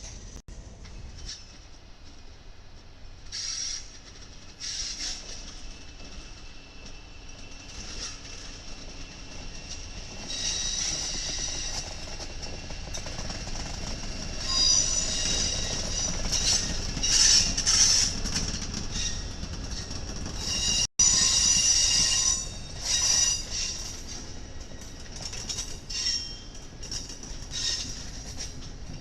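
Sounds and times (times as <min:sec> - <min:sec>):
rumble of train cars: 0:00.0 - 0:29.0
train wheels squealing: 0:03.2 - 0:29.0.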